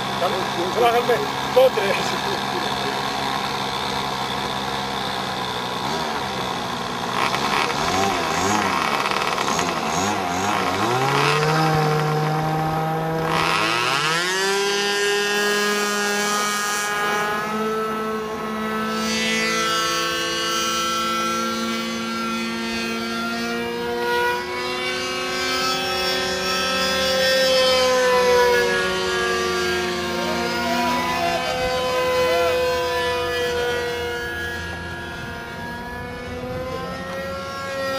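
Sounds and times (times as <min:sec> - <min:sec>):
model airplane engine: 0:00.0 - 0:37.9.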